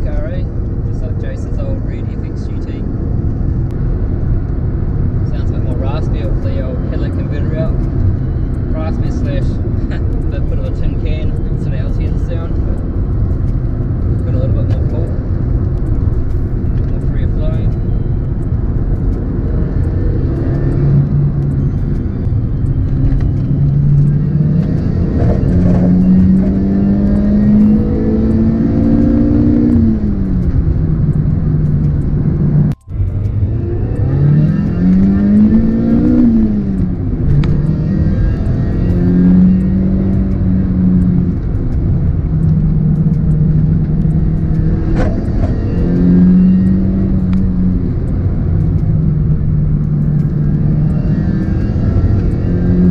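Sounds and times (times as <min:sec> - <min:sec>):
car engine accelerating: 0:00.0 - 0:52.9
road and wind noise: 0:00.0 - 0:52.9.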